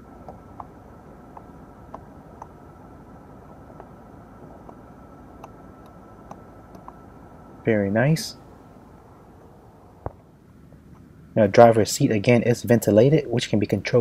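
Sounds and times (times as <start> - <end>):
car cabin hum: 0.0 - 14.0.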